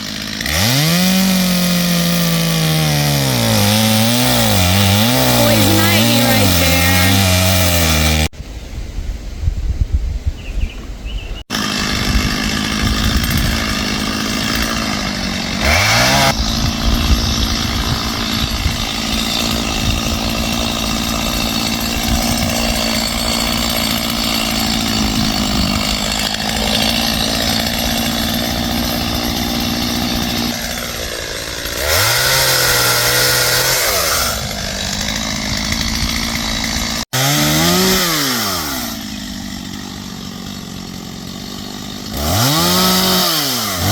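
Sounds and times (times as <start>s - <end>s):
chainsaw engine revving: 0.0s - 8.3s, 11.5s - 43.9s.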